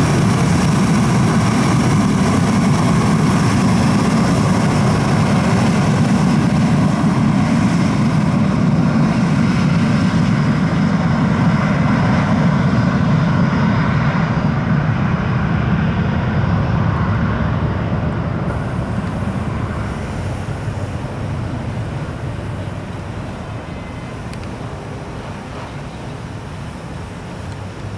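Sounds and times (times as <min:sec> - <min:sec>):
jet engines roaring at takeoff: 0:00.0 - 0:27.9.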